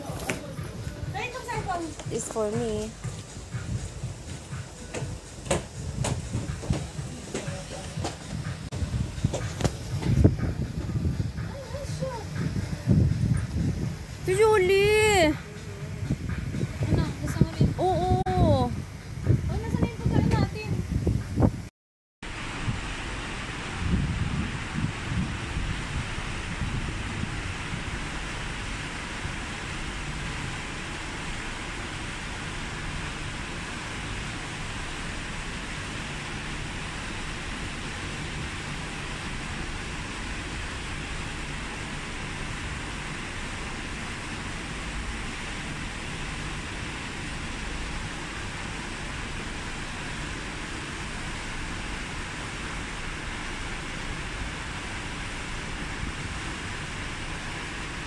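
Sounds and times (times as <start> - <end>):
wind noise on microphone: 0.0 - 21.7, 22.3 - 58.0
low rumble: 0.0 - 58.0.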